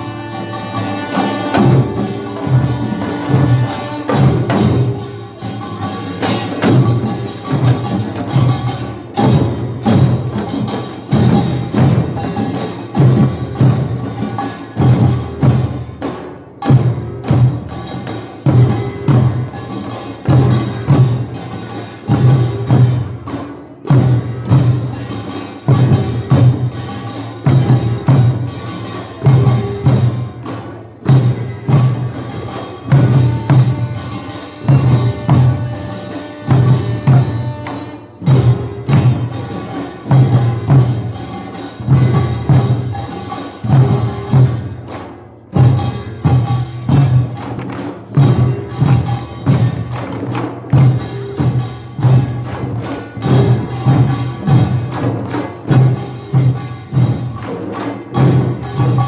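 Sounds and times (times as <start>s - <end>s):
drum beats: 0.0s - 59.0s
small gongs clanging: 0.0s - 59.0s.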